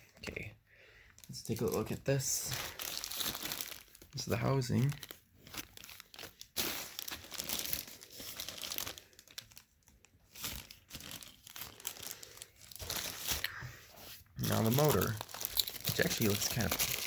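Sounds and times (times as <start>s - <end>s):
packaging crinkling: 1.2s - 17.0s.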